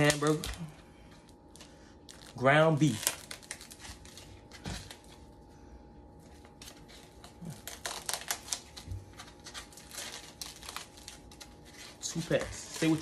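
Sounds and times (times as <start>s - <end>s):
plastic film crinkling: 0.0s - 5.5s, 6.1s - 13.0s
faint steady hum: 0.0s - 13.0s.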